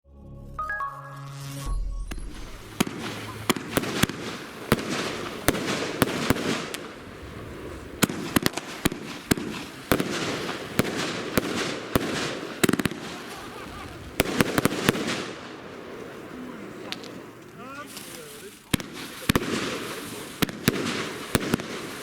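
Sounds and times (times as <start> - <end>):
firework crackling: 2.0 - 22.0
firework bangs: 2.1 - 22.0.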